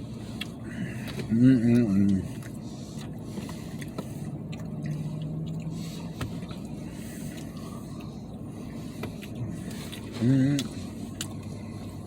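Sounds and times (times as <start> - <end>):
low rumble inside truck cab: 0.0 - 12.0.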